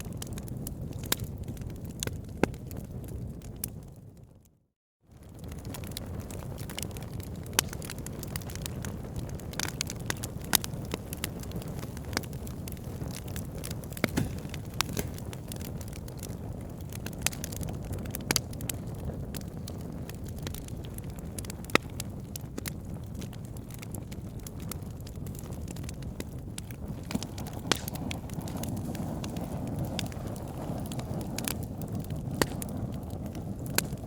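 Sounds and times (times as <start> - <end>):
fire crackling and popping: 0.0 - 4.5, 5.1 - 34.0
low rumble of flame: 0.0 - 34.0.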